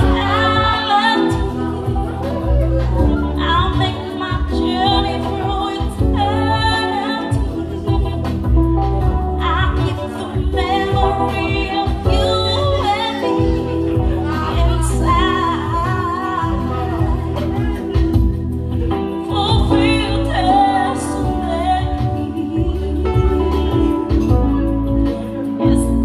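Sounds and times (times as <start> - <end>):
electric keyboard: 0.0 - 26.0
woman singing into microphone: 0.0 - 26.0.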